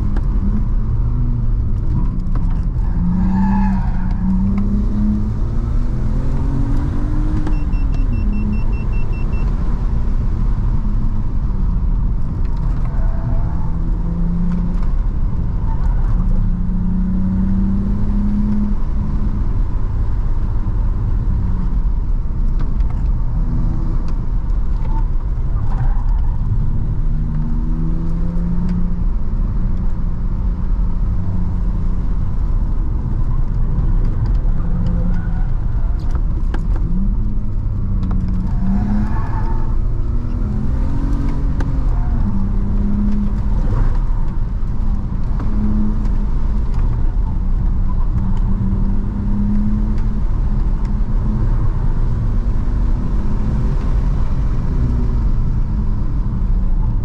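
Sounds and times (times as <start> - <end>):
car engine revving while driving: 0.0 - 57.0
road and tyre rumble: 0.0 - 57.0.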